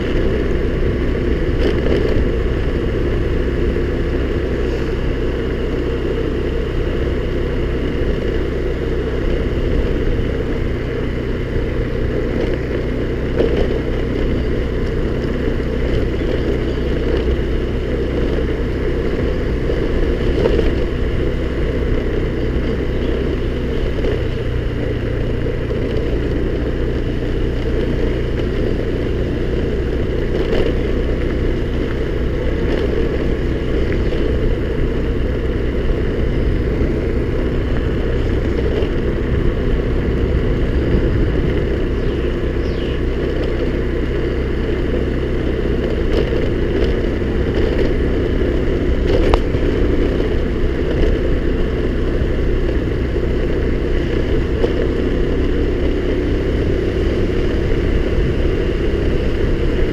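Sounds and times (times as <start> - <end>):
scooter engine running: 0.0 - 59.9.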